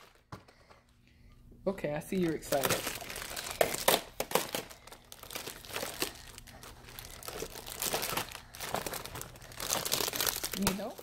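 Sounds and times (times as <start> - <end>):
plastic packaging crinkling: 0.0 - 1.0, 2.1 - 11.0.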